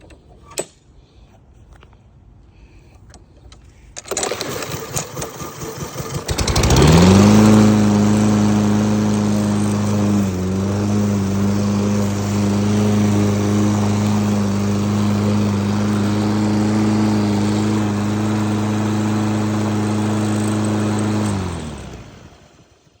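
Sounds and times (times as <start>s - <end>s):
lawn mower engine running: 4.0s - 23.0s.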